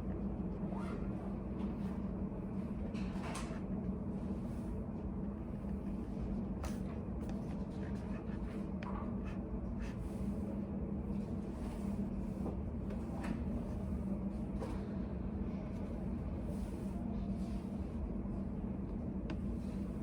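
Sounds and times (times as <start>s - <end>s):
room noise with low hum: 0.0s - 20.0s.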